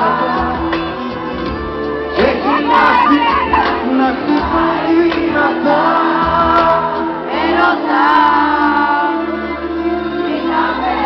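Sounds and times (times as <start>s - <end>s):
crowd singing along: 0.0s - 11.0s
pop song through a pa: 0.0s - 11.0s.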